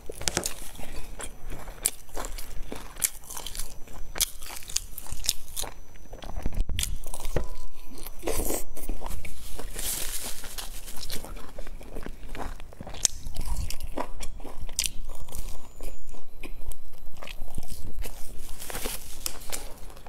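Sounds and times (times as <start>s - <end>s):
biting crusty bread: 0.0s - 20.0s.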